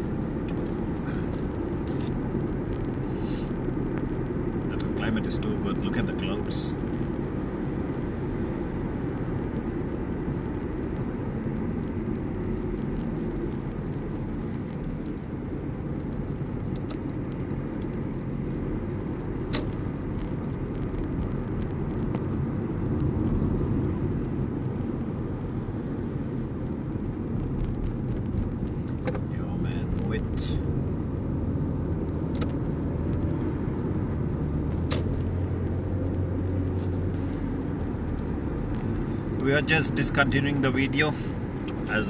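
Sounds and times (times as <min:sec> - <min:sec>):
car road and engine noise: 0:00.0 - 0:42.0.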